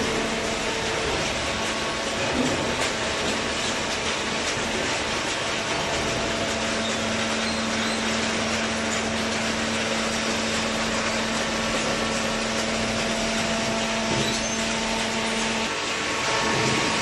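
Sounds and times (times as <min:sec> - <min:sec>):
electric motor and hydraulic pump hum: 0:00.0 - 0:17.0.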